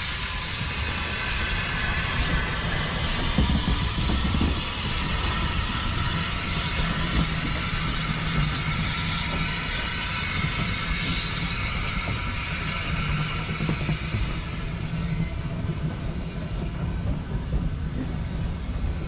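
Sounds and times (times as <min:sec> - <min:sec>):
steam train passing: 0:00.0 - 0:19.0.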